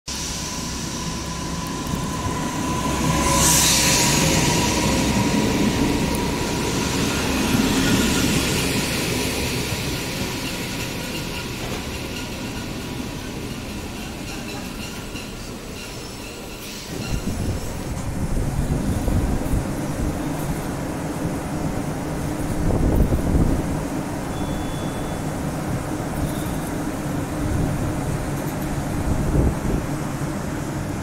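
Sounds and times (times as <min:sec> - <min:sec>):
train wheels rumbling: 0:00.1 - 0:31.0.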